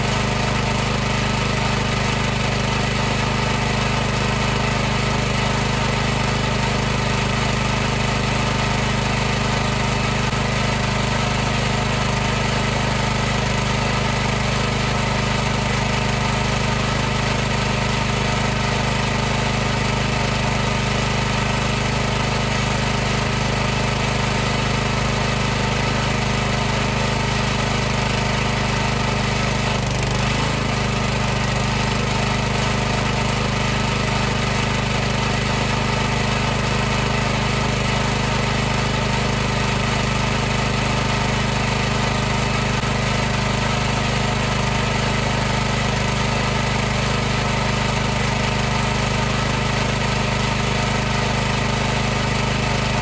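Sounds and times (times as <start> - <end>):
pressure washer running: 0.0 - 53.0.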